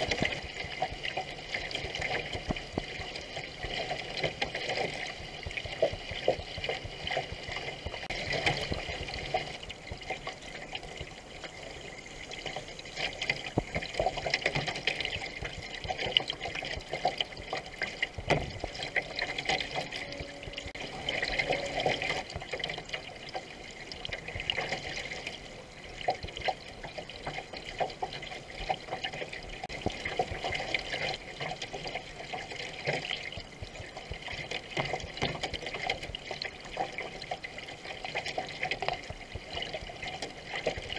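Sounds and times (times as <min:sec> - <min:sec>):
canoe paddles dipping in water: 0:00.0 - 0:40.9
water rushing along hull: 0:00.0 - 0:40.9
water splashing: 0:00.0 - 0:40.9.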